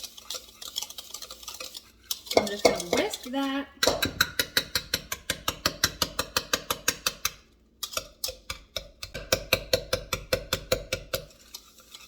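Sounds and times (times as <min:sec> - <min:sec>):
whisk clicking against bowl: 0:00.0 - 0:12.0.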